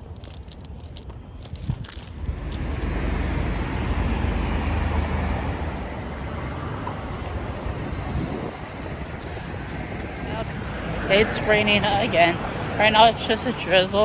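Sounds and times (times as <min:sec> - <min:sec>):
vehicle road noise rumble: 0:00.0 - 0:14.0.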